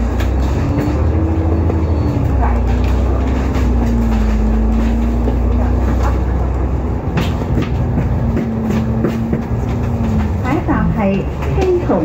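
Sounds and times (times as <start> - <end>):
bus engine drone with whine: 0.0 - 12.0
light interior rattles: 0.0 - 12.0.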